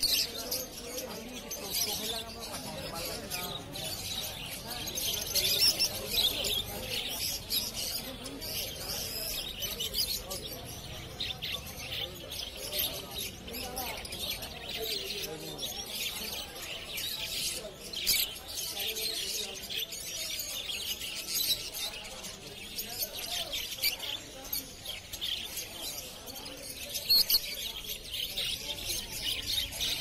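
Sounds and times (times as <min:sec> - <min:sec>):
caged birds chirping: 0:00.0 - 0:30.0
murmur of voices: 0:00.0 - 0:30.0.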